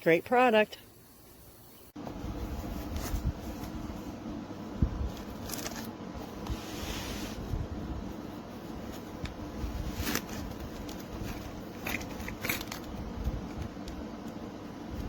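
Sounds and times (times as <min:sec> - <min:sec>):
low background rumble: 0:01.6 - 0:15.0
handling clicks and rustles: 0:02.3 - 0:06.8, 0:07.4 - 0:15.0.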